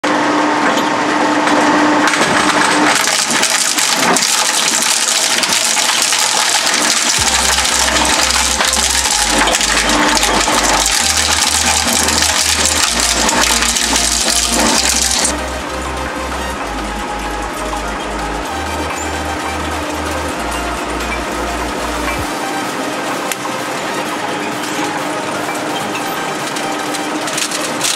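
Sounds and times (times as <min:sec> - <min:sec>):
shredder crushing plastic: 0:00.3 - 0:27.9.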